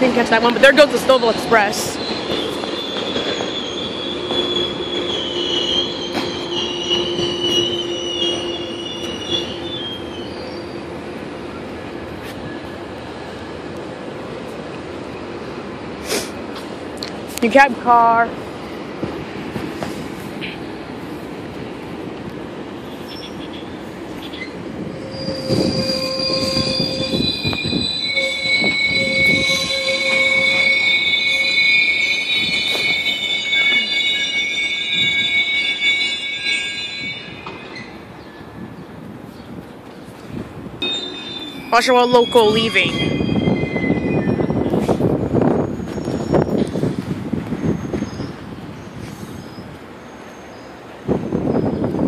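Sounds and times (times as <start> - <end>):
rumble of train cars: 0.0 - 52.0
train wheels squealing on rails: 0.1 - 16.8, 22.6 - 52.0.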